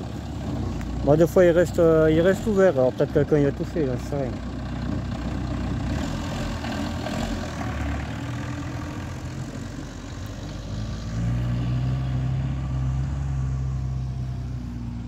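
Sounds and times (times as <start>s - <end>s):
low engine drone: 0.0s - 15.0s
van engine running: 0.0s - 15.0s.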